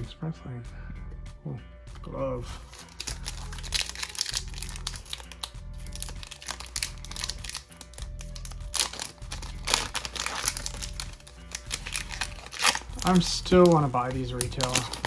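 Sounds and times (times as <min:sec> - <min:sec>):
background music with bass: 0:00.0 - 0:15.0
plastic packaging crinkling: 0:02.7 - 0:15.0.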